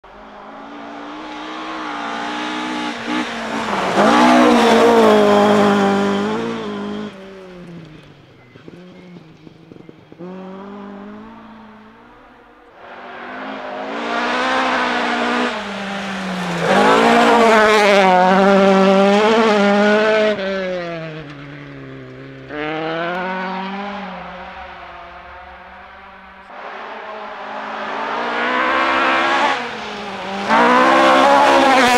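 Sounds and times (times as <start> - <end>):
rally cars revving past: 0.1 - 31.9.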